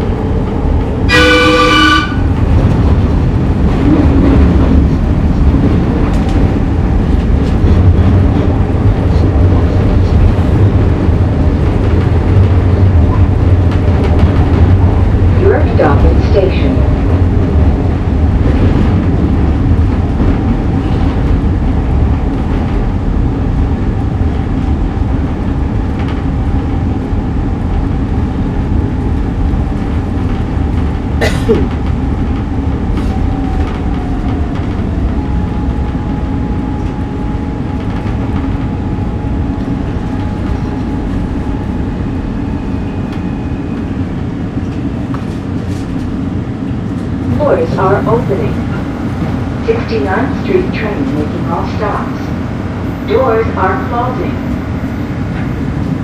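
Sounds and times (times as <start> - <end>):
subway wheels rumbling: 0.0 - 56.0.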